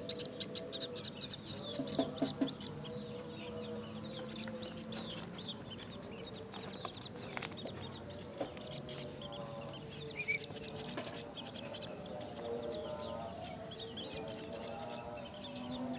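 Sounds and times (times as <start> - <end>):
bird chick chirping: 0.0 - 15.9.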